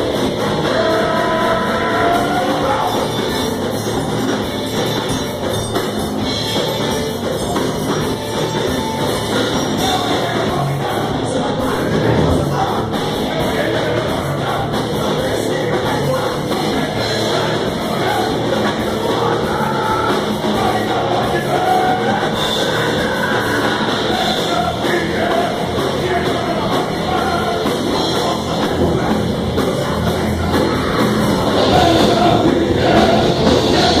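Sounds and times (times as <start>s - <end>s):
person singing: 0.0s - 3.8s, 9.3s - 34.0s
heavy rock band playing: 0.0s - 34.0s.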